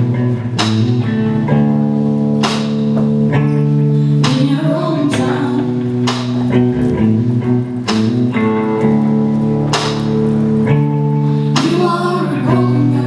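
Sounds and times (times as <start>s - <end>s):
live band with guitar chords: 0.0s - 13.0s.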